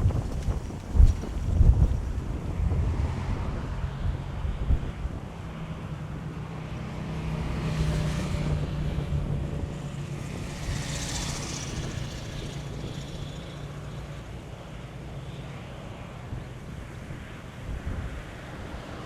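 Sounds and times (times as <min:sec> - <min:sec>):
vehicle engine hum: 0:00.0 - 0:19.0
wind buffeting microphone: 0:00.0 - 0:19.0.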